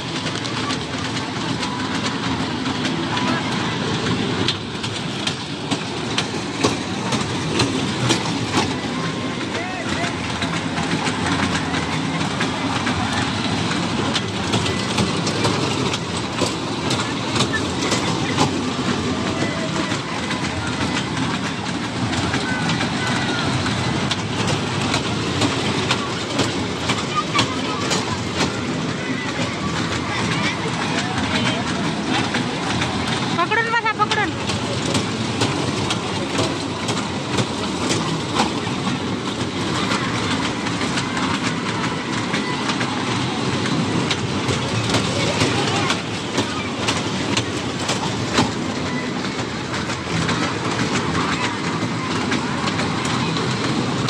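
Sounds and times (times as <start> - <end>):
ride train rumble: 0.0 - 54.0
wheels clicking over rail joints: 0.0 - 54.0.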